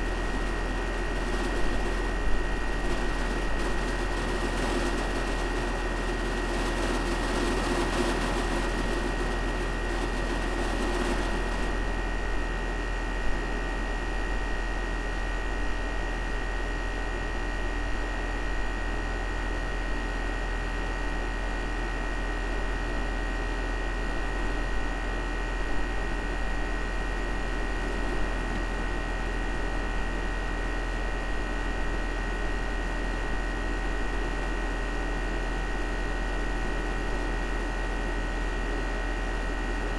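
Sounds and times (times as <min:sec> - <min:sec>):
air conditioner unit humming: 0:00.0 - 0:39.9.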